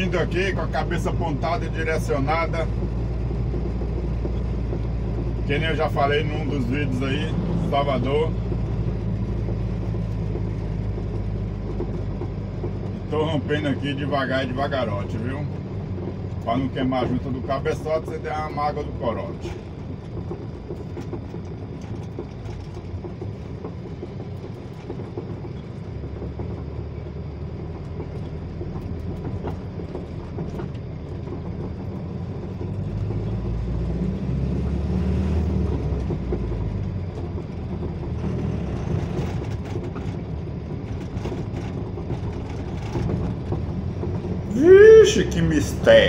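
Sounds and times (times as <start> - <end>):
road noise inside cab: 0.0 - 46.0
truck engine rumble: 0.0 - 46.0.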